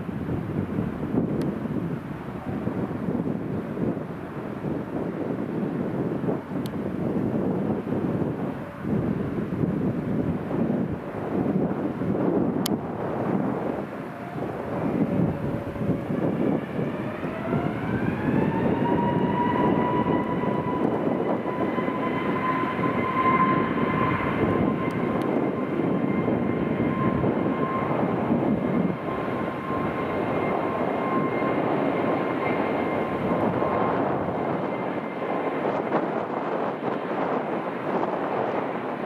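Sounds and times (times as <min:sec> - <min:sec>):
jet engine roar: 0:00.0 - 0:39.0
jet engine whine rising: 0:00.0 - 0:39.0.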